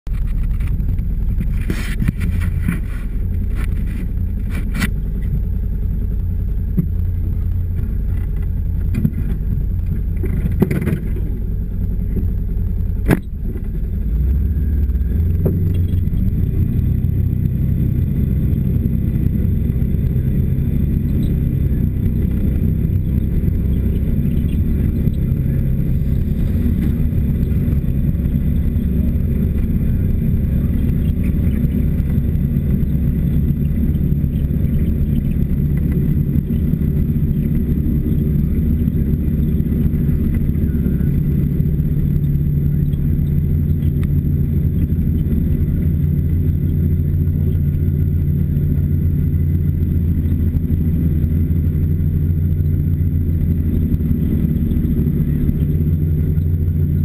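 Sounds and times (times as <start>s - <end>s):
small vehicle engine running: 0.1s - 57.0s.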